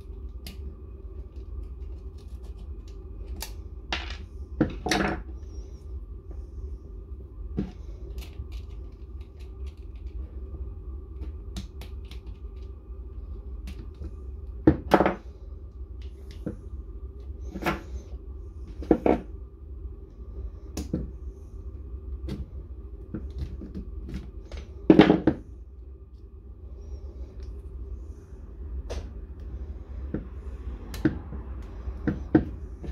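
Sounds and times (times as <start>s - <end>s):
low hum: 0.0s - 32.9s.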